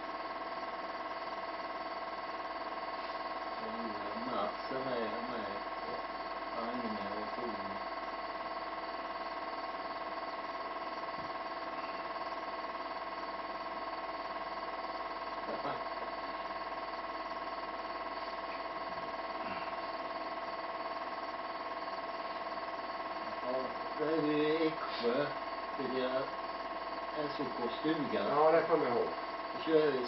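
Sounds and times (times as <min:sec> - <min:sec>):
high-pitched tonal hum: 0:00.0 - 0:30.0.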